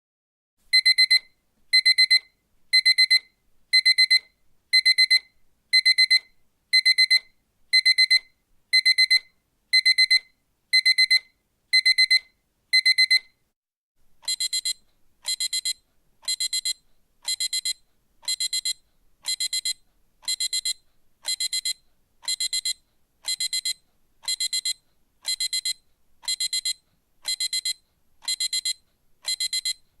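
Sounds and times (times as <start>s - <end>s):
alarm clock beeping: 0.8s - 1.2s, 1.8s - 3.2s, 3.8s - 4.2s, 4.8s - 7.2s, 7.8s - 8.2s, 8.8s - 11.2s, 11.8s - 13.2s, 14.3s - 29.8s.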